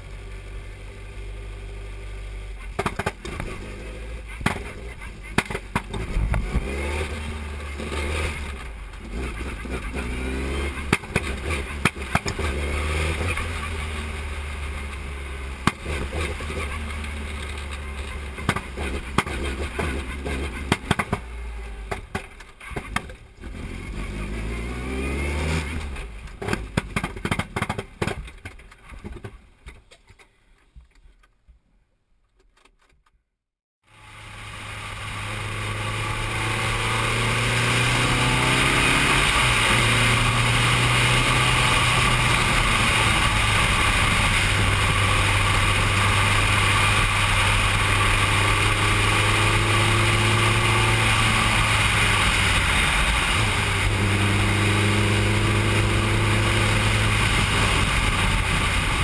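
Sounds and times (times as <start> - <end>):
race car engine revving: 2.7 - 21.3, 22.7 - 27.1, 34.0 - 59.0.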